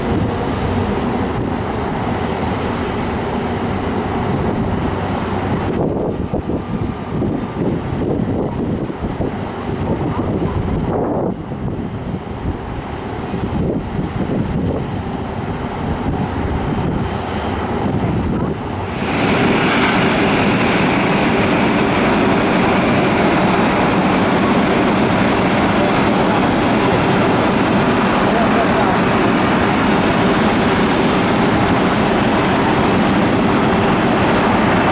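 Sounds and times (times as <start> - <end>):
jet engines roaring: 0.0 - 34.9.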